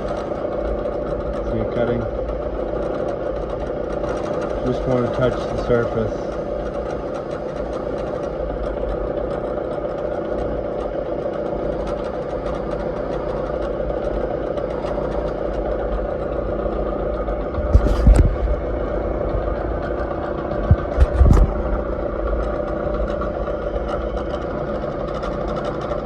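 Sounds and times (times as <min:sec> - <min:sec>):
milling machine humming: 0:00.0 - 0:26.0.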